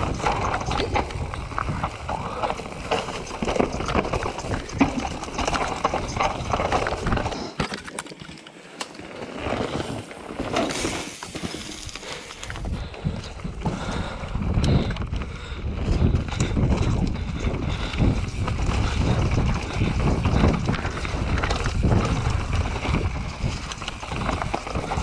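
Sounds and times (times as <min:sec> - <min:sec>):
tyres crunching over rocks: 0:00.0 - 0:14.9, 0:16.0 - 0:25.0
bike rattling over bumps: 0:00.0 - 0:25.0.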